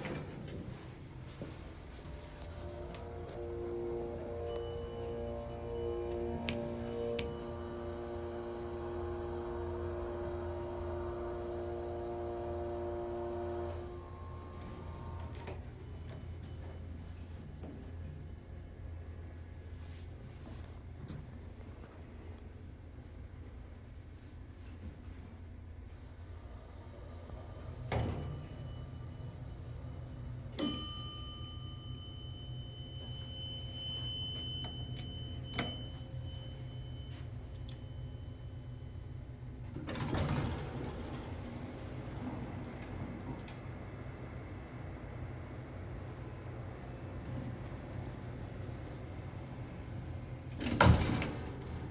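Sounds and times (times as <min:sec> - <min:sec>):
elevator humming: 0:00.0 - 0:19.9, 0:25.7 - 0:51.9.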